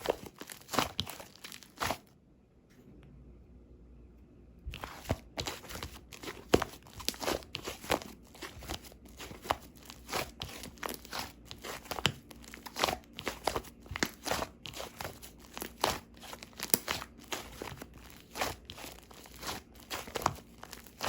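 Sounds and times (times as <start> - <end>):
slime squished by hand: 0.0 - 2.0, 4.7 - 21.0.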